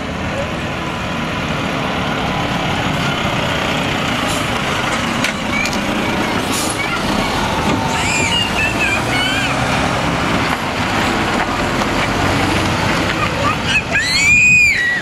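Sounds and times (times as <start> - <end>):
diesel truck engine rumbling: 0.0 - 15.0
road noise: 0.0 - 15.0.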